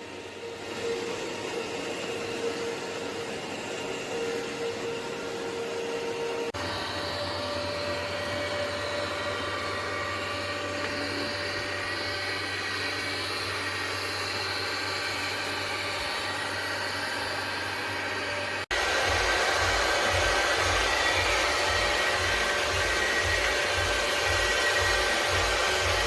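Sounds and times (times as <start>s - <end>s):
robot vacuum motor and fan whir: 0.0s - 26.0s.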